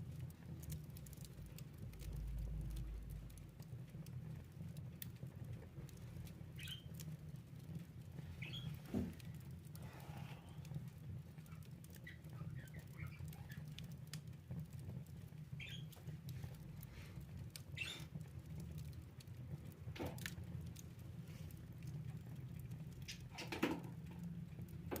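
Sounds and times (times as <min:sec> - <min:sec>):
low fire rumble: 0:00.0 - 0:25.0
wood fire crackling: 0:00.0 - 0:25.0.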